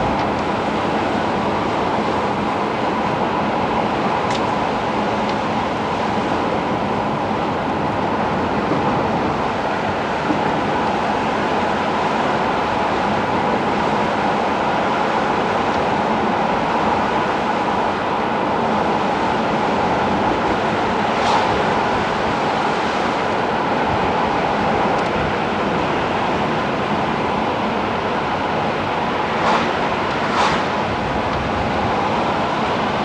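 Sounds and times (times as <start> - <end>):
car engine tyre and wind noise: 0.0 - 33.0.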